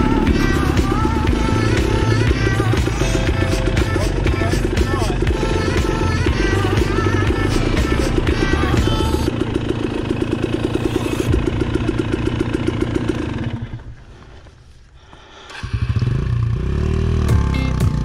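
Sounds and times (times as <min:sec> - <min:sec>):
dirt bike engine idling and revving: 0:00.0 - 0:18.0.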